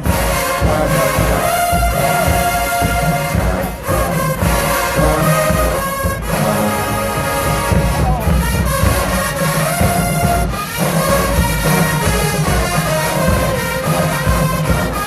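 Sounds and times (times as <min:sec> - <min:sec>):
brass section holding chords: 0:00.0 - 0:15.0
pounding bass drums: 0:00.0 - 0:15.0.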